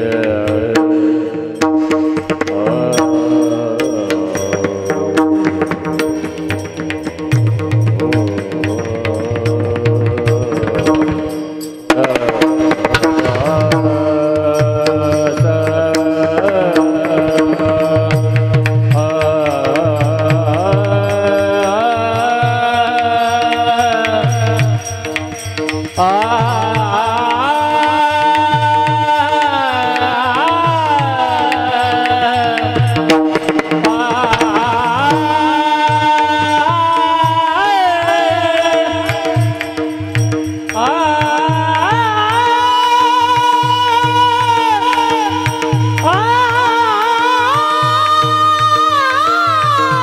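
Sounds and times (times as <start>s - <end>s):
men singing a devotional chant: 0.0s - 6.8s, 8.1s - 50.0s
drum keeping time: 0.0s - 50.0s.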